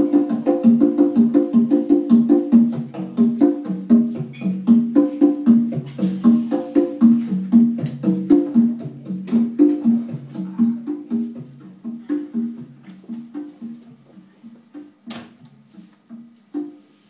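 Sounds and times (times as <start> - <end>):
percussion: 0.0 - 17.0.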